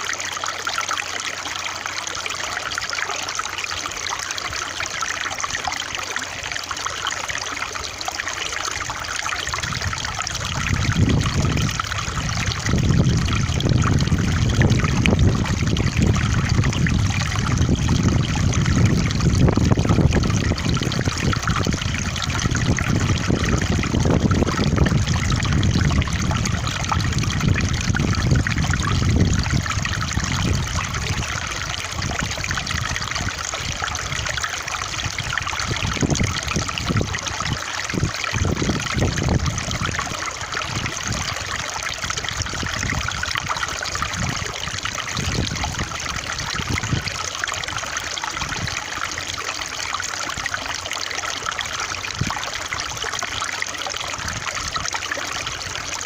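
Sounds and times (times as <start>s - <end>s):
deep low water rush: 0.0s - 56.0s
stream trickling over stones: 0.0s - 56.0s.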